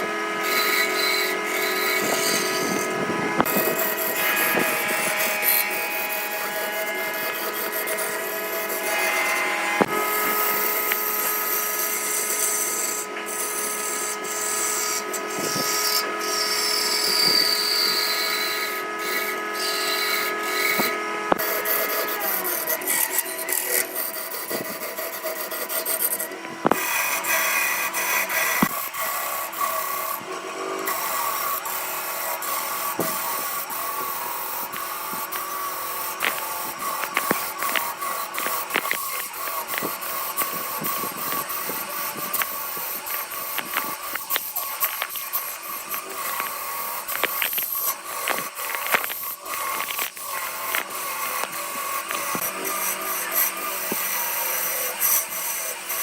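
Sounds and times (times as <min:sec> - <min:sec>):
tool scraping spinning wood: 0:00.0 - 0:56.0
wood lathe motor whine: 0:00.0 - 0:56.0.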